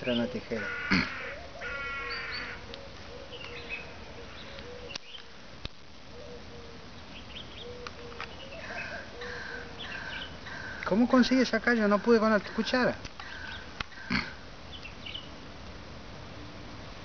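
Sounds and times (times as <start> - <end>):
birds calling and chirping: 0.0 - 15.4.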